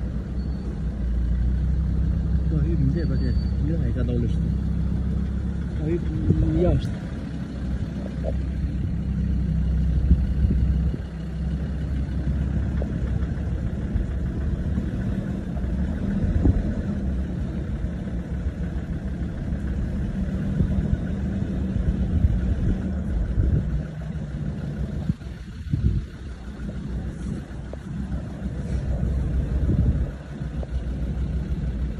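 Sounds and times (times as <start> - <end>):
car engine running at low speed: 0.0 - 31.9.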